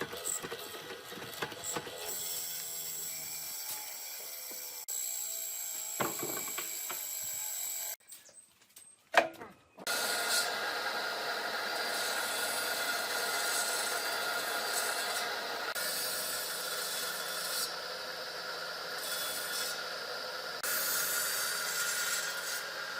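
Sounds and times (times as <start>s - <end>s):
power tool running on wood: 0.0s - 8.0s, 9.9s - 22.9s.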